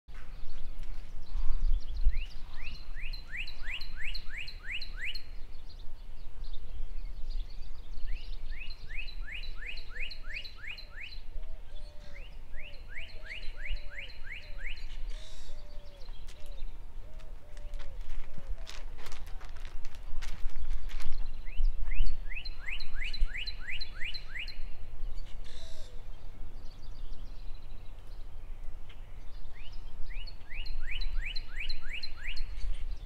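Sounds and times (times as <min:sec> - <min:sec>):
songbird singing: 0:00.1 - 0:33.0
lower bird call: 0:01.2 - 0:18.9, 0:21.4 - 0:33.0.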